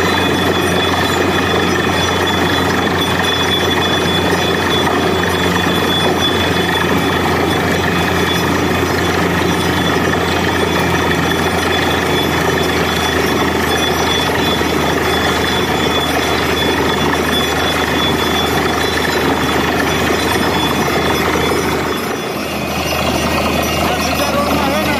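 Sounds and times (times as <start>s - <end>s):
constant high whine: 0.0s - 24.9s
drilling rig engine and drilling: 0.0s - 24.9s.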